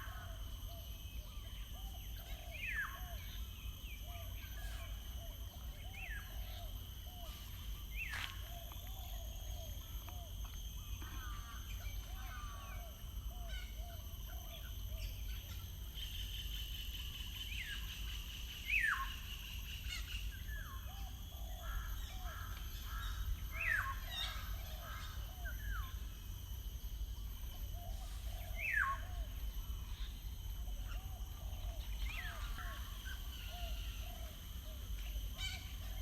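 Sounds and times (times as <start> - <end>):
buzzy bird trill: 0.0 - 36.0.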